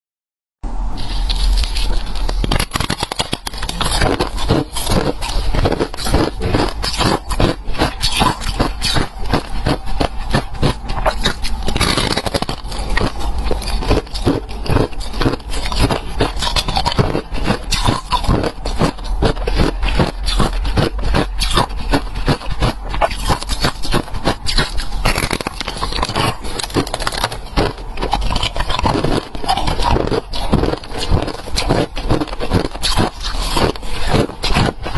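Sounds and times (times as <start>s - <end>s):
frost being chewed crunching: 1.0s - 34.9s.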